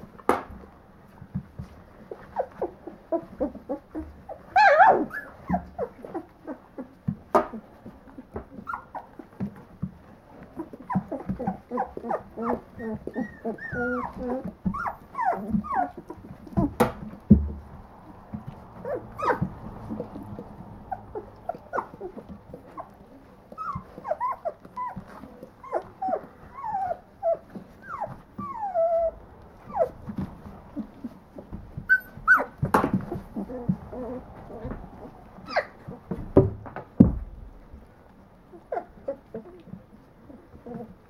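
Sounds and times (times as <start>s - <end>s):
puppies whimpering and squealing: 1.6s - 17.3s, 18.0s - 36.2s, 38.5s - 41.0s.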